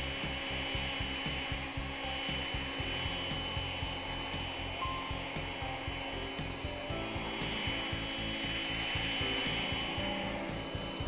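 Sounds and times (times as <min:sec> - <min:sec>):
stick vacuum motor whine: 0:00.0 - 0:11.0.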